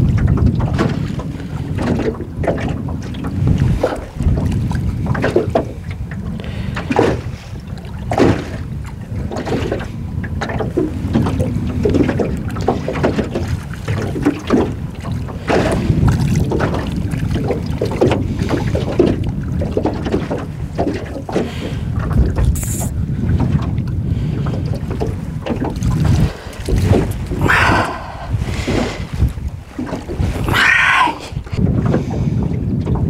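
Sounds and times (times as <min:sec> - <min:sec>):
water slapping against metal boat: 0:00.0 - 0:33.0
wind rumbling on microphone: 0:00.0 - 0:33.0.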